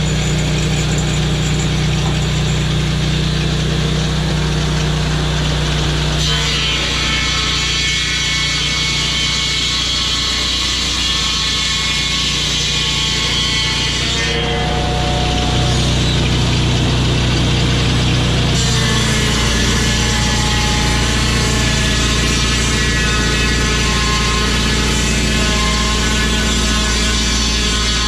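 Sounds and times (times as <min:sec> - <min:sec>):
engine drone: 0:00.0 - 0:28.0
saw cutting wood: 0:00.0 - 0:28.0.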